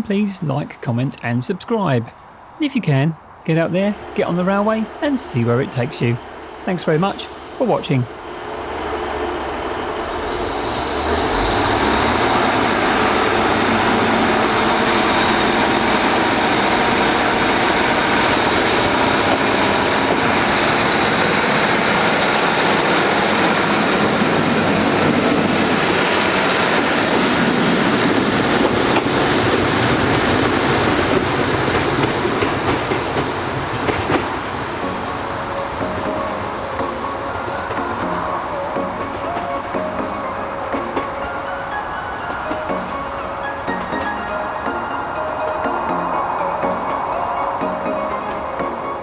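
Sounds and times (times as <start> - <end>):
diesel train engines under power: 0.0 - 49.0
wheel-on-rail noise: 3.2 - 49.0.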